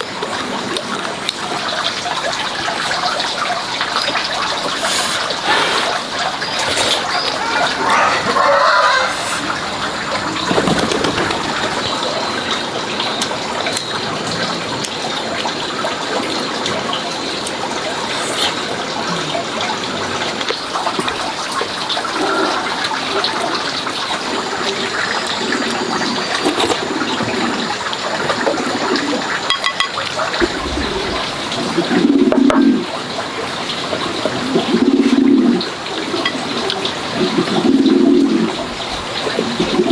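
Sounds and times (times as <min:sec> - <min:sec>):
water running and splashing: 0:00.0 - 0:39.9.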